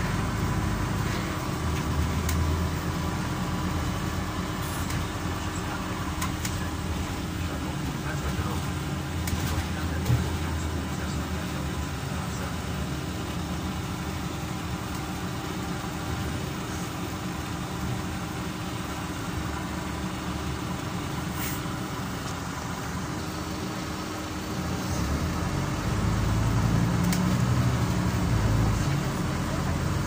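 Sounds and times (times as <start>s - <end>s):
bus engine hum and road noise: 0.0s - 30.0s.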